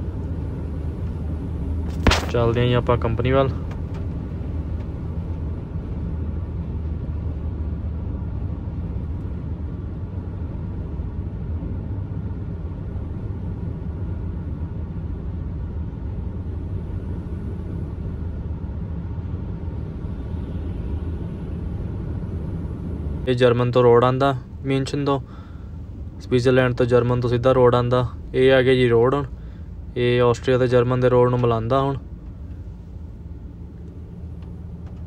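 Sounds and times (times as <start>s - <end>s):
truck diesel engine drone: 0.0s - 35.0s.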